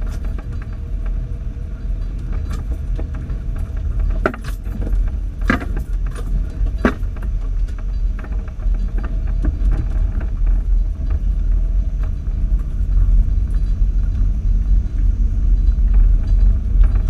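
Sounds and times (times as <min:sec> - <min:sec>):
off-road vehicle engine drone: 0:00.0 - 0:17.0
vehicle knocks and rattles: 0:00.0 - 0:17.0.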